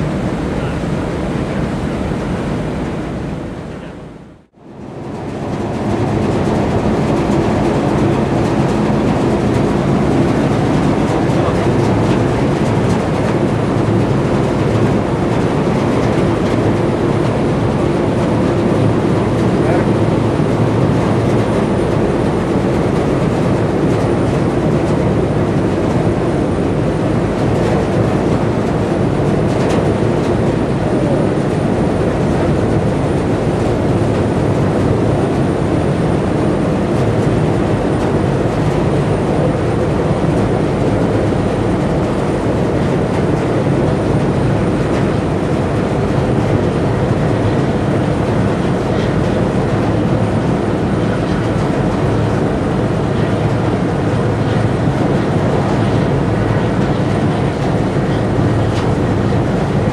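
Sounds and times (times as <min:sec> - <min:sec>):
boat diesel engines rumbling: 0:00.0 - 0:59.9.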